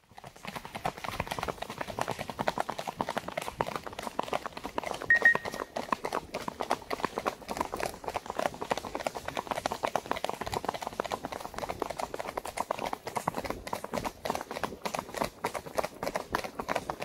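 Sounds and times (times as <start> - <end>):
horse hooves patter: 0.0 - 17.0.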